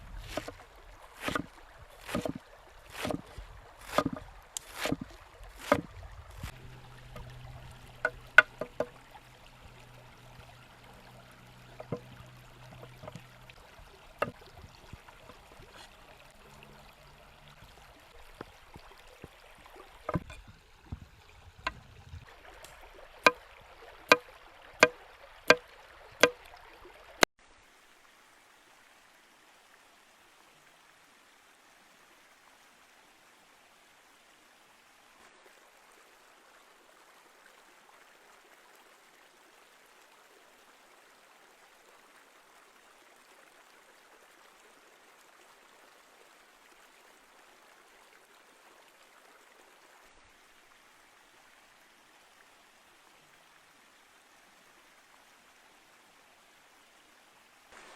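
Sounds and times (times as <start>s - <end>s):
faint river flow: 0.0s - 57.9s.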